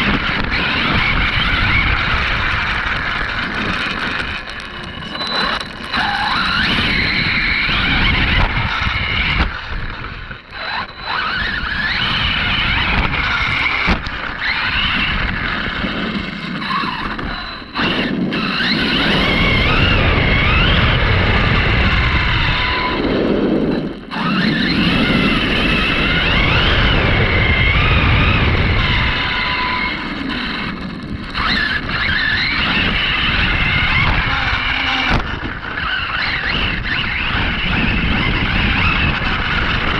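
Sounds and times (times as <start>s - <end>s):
electric motor whine: 0.0s - 39.9s
tyre and chassis rattle: 0.0s - 39.9s.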